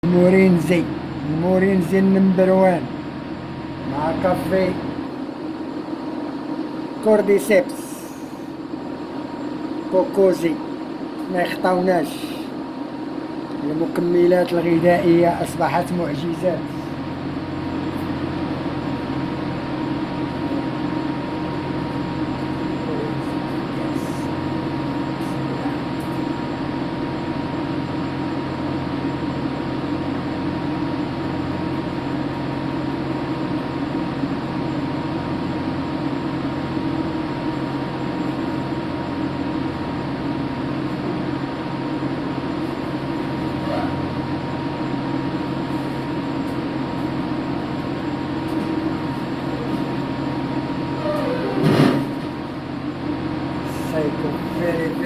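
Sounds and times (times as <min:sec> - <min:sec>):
mechanical rumble and hum: 0:00.0 - 0:55.0.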